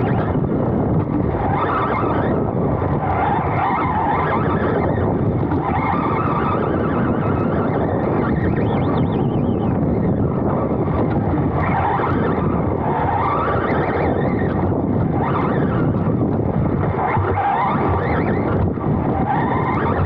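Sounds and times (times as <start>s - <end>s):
chassis rumble: 0.0s - 20.0s
wind on microphone: 0.0s - 20.0s.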